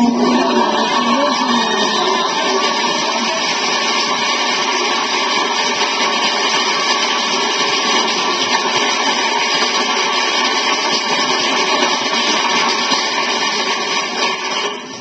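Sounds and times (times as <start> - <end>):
loud rushing noise from record: 0.0 - 15.0.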